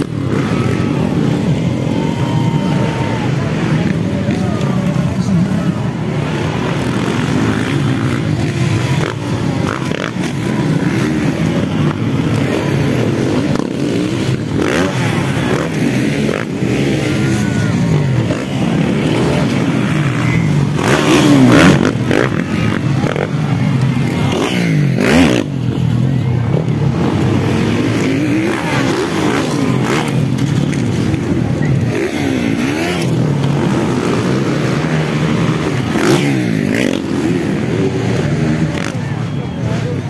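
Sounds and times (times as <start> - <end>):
motocross bikes revving: 0.0 - 40.0.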